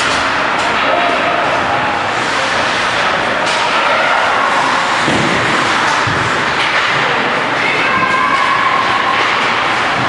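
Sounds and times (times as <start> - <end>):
ice rink noise: 0.0 - 10.0.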